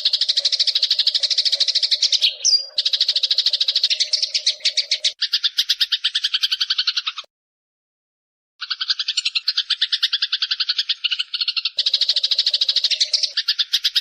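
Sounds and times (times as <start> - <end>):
sparrow chattering rattle: 0.0 - 7.3, 8.6 - 14.0.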